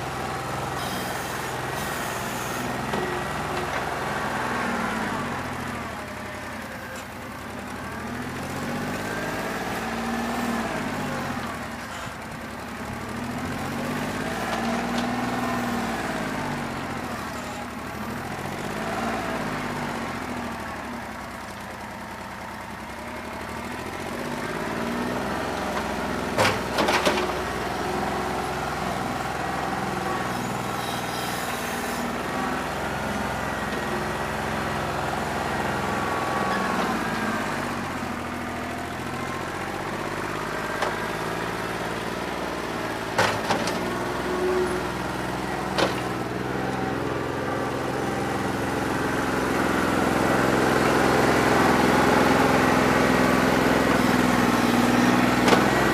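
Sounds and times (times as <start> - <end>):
diesel tractor engine misfiring: 0.1 - 55.9.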